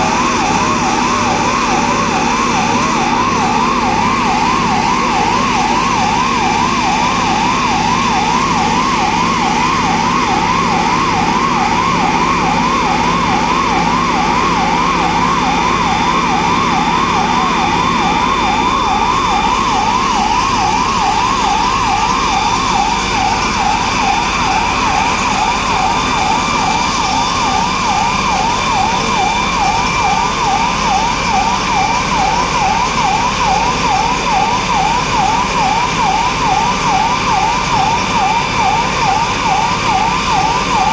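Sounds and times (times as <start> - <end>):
electronic siren yelping: 0.0 - 40.9.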